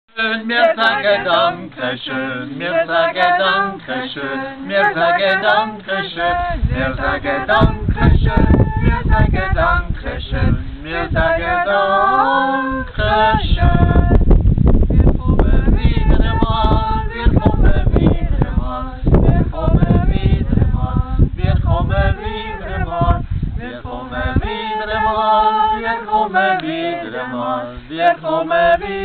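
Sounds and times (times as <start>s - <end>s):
group singing unaccompanied: 0.1s - 29.0s
low microphone rumble: 1.0s - 26.1s.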